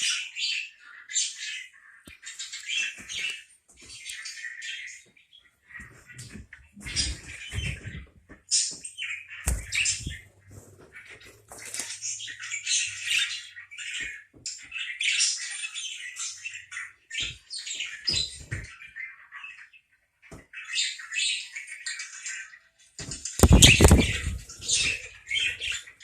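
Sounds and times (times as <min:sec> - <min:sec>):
parakeets chattering and squawking: 0:00.0 - 0:26.0.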